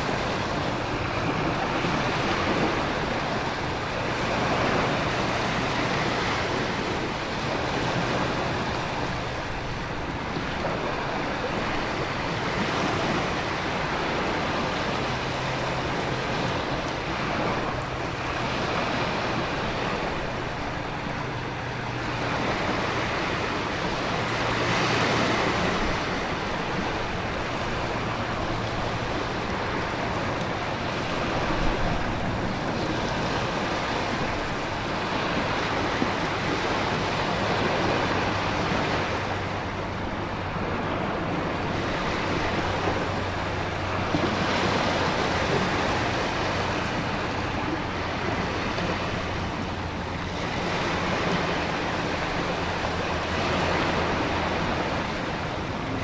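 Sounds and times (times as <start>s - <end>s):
surf waves surging: 0.0s - 56.0s
wind: 0.0s - 56.0s.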